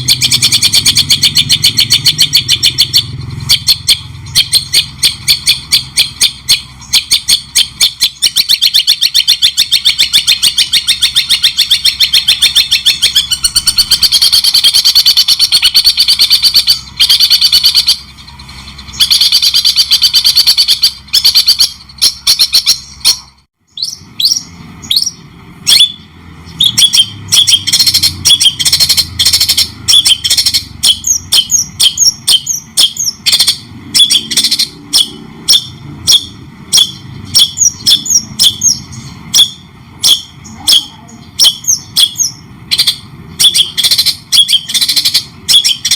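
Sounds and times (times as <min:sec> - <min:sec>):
songbird chattering trills: 0:00.0 - 0:45.9.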